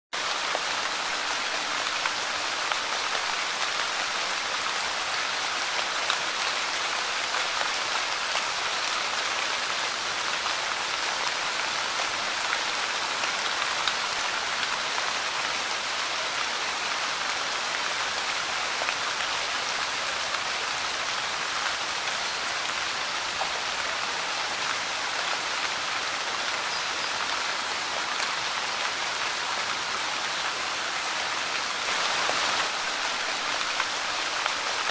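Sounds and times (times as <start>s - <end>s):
light rain on a leaf: 0.2s - 34.9s.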